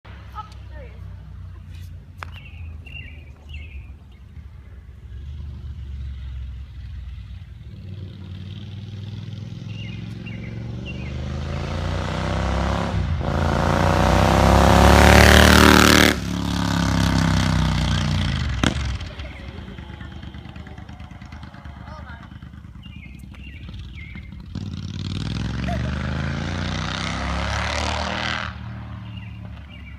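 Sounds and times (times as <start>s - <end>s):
motorcycle engine accelerating: 4.4s - 29.9s.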